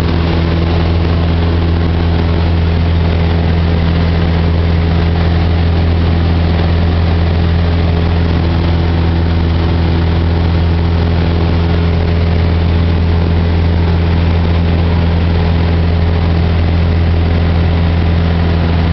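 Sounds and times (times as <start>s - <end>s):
airplane engine droning: 0.0s - 18.9s.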